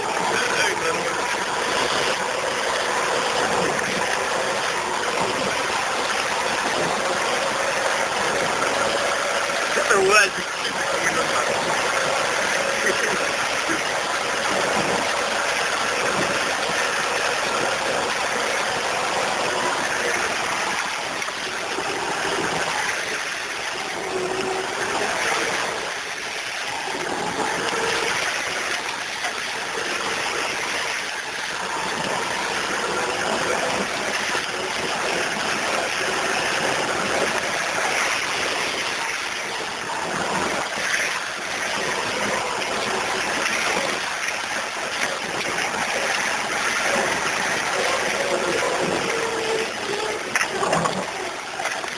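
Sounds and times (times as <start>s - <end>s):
rushing water-like noise: 0.0s - 51.9s
vehicle engine hum: 0.0s - 51.9s.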